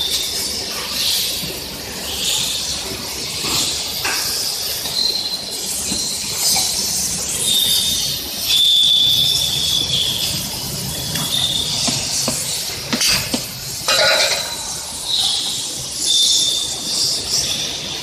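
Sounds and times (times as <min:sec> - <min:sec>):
machinery hissing: 0:00.0 - 0:18.0
high-pitched squeal: 0:03.5 - 0:18.0.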